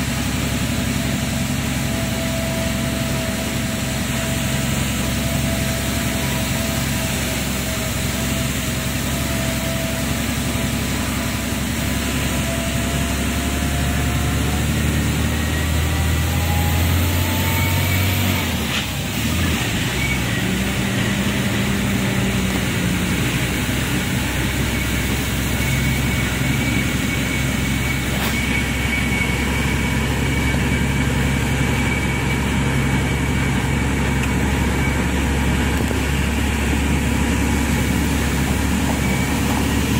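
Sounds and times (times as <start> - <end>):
lorry engine climbing: 0.0 - 39.9.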